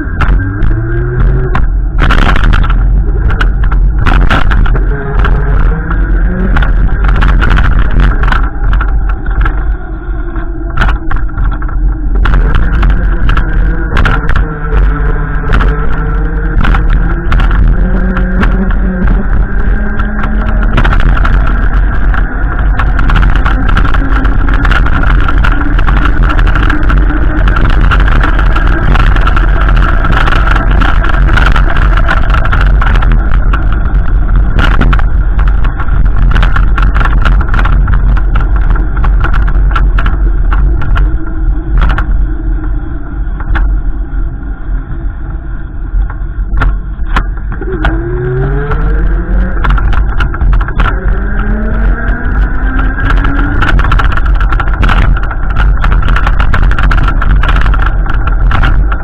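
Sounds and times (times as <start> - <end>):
car engine rumble: 0.0 - 59.0.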